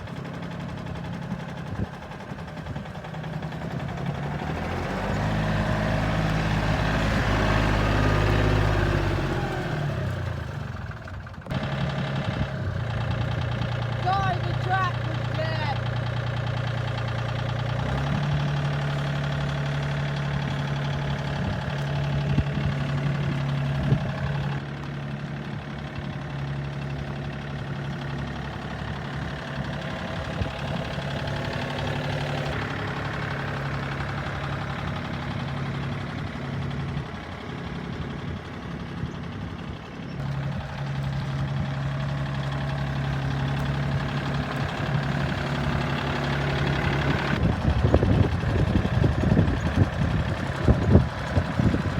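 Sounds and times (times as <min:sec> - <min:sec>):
tractor engine idling: 0:00.0 - 0:51.9.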